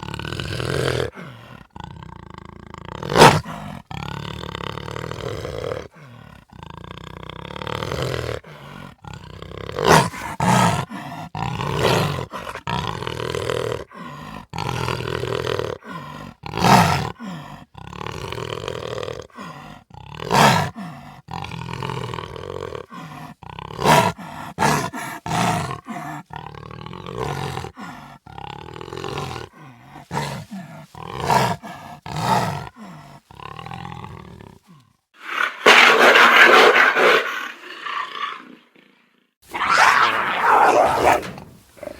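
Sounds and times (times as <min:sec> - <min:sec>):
jaguar growling and roaring: 0:00.0 - 0:34.8, 0:39.4 - 0:41.9.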